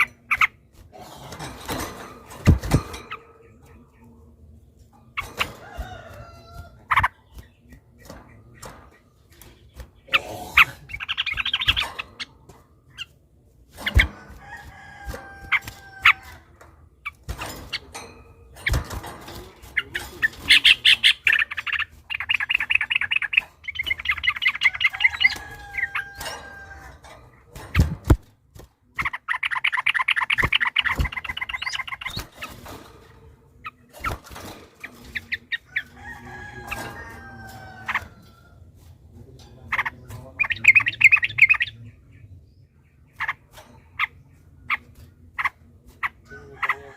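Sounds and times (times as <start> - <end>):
bulbuls chattering song: 0.0 - 46.9.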